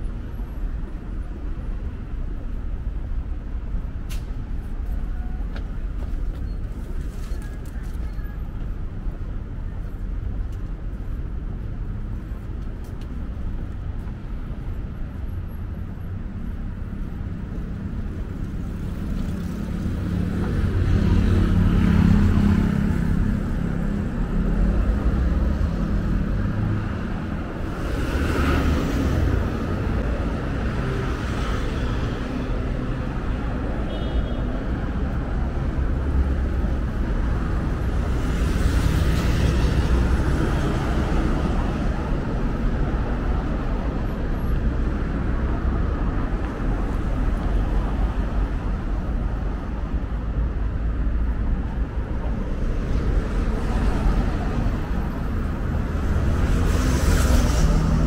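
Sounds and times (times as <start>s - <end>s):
rumble of engines and tyres: 0.0s - 58.0s.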